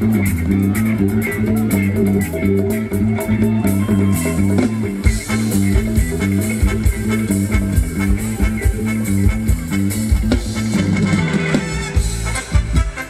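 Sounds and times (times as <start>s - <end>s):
live band playing dance music: 0.0s - 13.0s
plucked guitar: 0.0s - 13.0s
stepping bass line: 0.0s - 13.0s.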